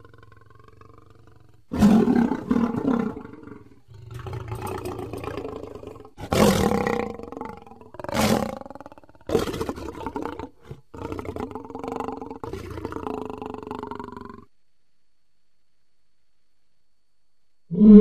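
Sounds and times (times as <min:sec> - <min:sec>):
lion growling and roaring: 0:00.0 - 0:14.5.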